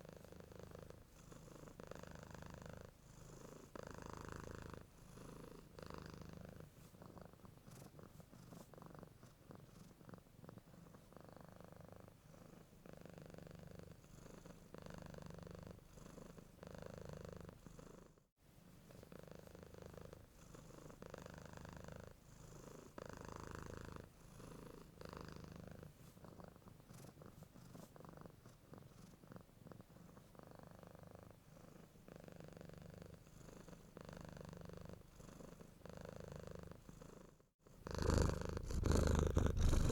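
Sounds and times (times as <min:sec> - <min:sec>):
cat purring: 0:00.0 - 0:18.2, 0:18.9 - 0:39.9.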